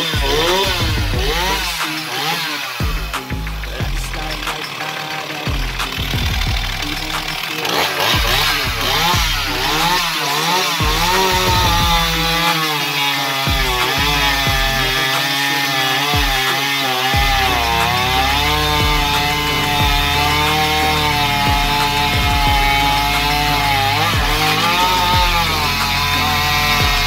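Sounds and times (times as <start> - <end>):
chainsaw cutting through log: 0.0 - 27.0.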